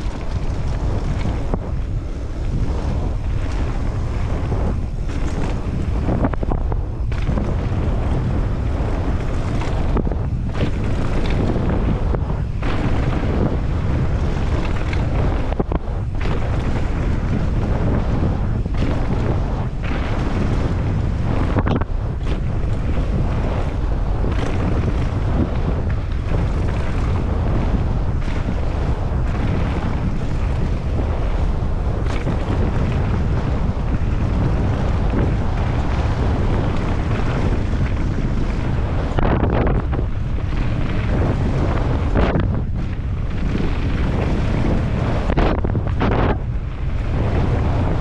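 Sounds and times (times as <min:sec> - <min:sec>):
bike knocking over bumps: 0:00.0 - 0:47.9
wind buffeting microphone: 0:00.0 - 0:48.0.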